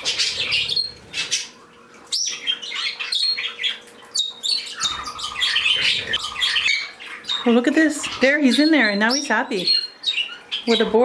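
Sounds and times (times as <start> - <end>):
pet birds chirping: 0.0 - 11.0.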